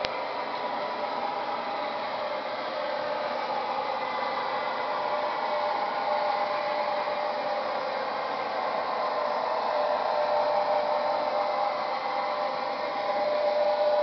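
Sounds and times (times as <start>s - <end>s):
faint motor tones: 0.0s - 14.0s
model train whirring: 0.0s - 14.0s.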